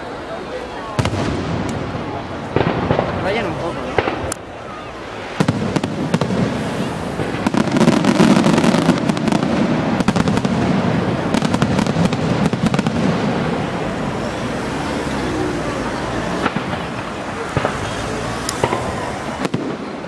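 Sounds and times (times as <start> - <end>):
continuous rumble: 0.0 - 20.0
fireworks bangs and crackling: 0.9 - 20.0.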